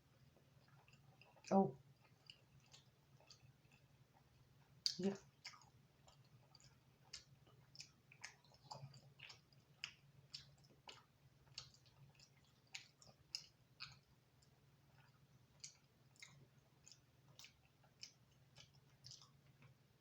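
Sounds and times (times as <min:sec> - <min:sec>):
chewing crispy pizza: 0:00.0 - 0:20.0
faint low hum: 0:00.0 - 0:20.0.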